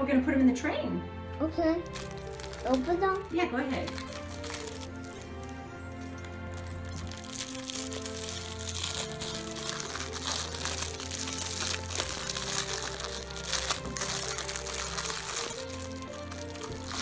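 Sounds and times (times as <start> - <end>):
background music: 0.0 - 17.0
candy wrapper crinkling: 1.8 - 17.0.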